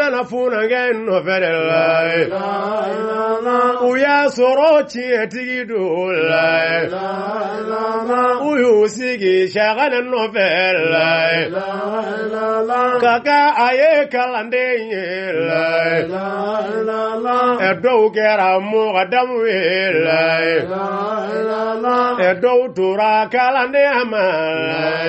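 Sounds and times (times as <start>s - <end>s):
devotional chanting: 0.0s - 25.0s.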